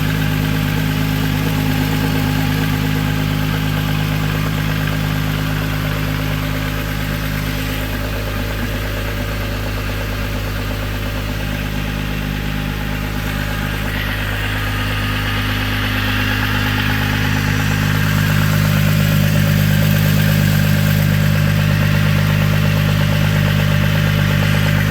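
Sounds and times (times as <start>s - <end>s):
car engine idling: 0.0s - 24.9s
engine valve ticking: 0.0s - 24.9s.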